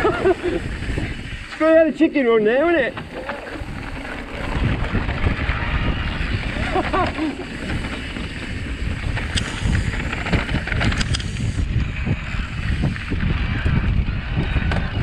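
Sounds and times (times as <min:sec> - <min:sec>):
bike clicks and rattles: 0:00.0 - 0:01.8, 0:02.6 - 0:15.0
wind buffeting microphone: 0:00.0 - 0:02.0, 0:02.6 - 0:15.0
bike tyres rumbling on dirt: 0:00.0 - 0:15.0.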